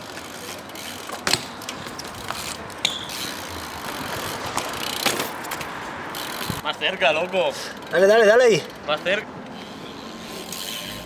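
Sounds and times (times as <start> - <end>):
bike freewheel clicking: 0.0 - 5.4, 6.1 - 8.8, 9.5 - 11.0.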